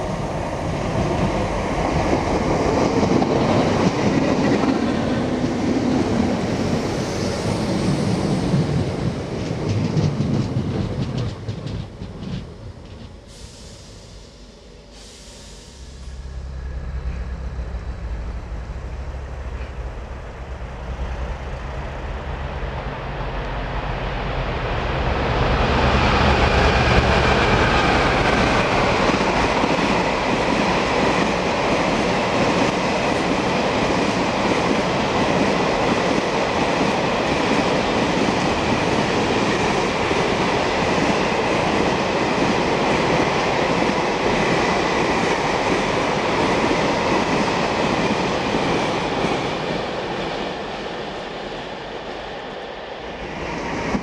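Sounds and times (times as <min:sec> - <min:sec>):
diesel locomotive engine droning: 0:00.0 - 0:54.0
electric train running past: 0:00.0 - 0:54.0
train wheels on rails: 0:00.0 - 0:54.0.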